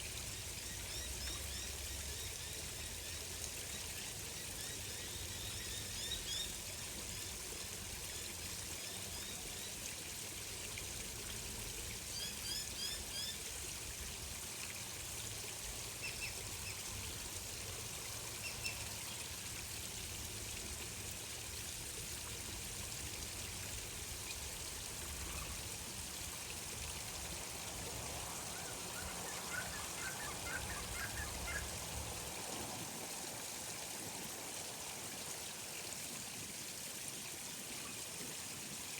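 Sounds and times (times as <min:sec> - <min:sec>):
water trickling: 0:00.0 - 0:38.7.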